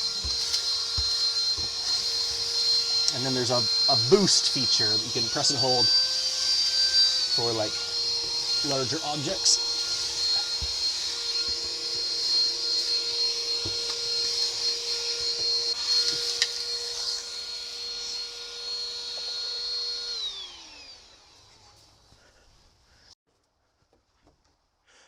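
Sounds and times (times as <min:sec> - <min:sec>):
motor spinning down: 0:00.0 - 0:21.7
handheld vacuum whining: 0:00.0 - 0:22.5.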